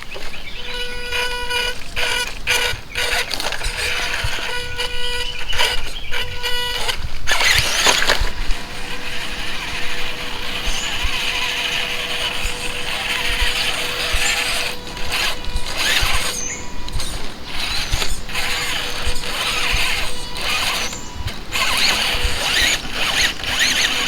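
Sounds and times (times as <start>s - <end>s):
electric motor whining: 0.0s - 24.0s
loud scraping rush: 0.0s - 24.0s.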